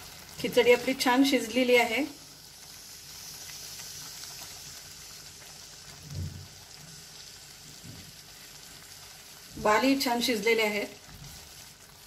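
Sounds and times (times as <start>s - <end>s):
pot simmering with soft hiss: 0.0s - 12.0s.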